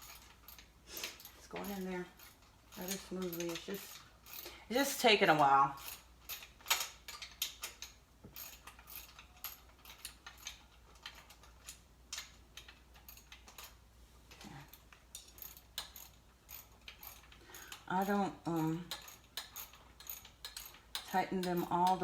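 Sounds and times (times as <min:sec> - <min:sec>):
small metallic clicks of bolts: 0:00.0 - 0:04.7, 0:05.4 - 0:22.0.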